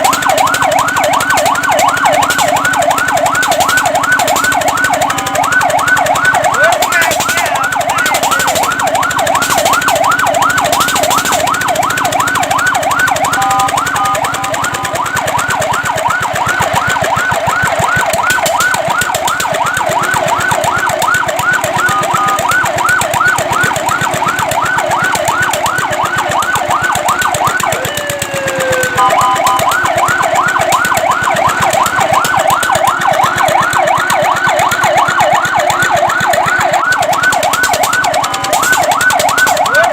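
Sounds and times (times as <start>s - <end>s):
fire truck siren yelping: 0.0s - 39.9s.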